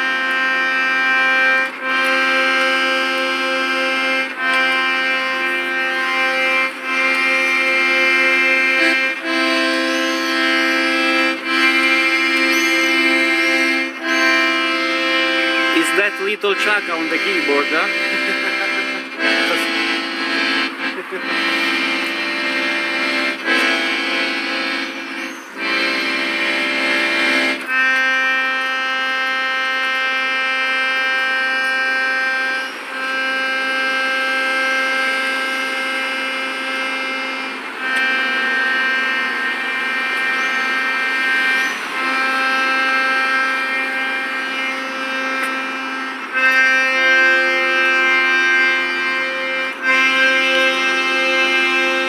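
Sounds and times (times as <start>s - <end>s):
accordion playing held chords: 0.0s - 52.0s.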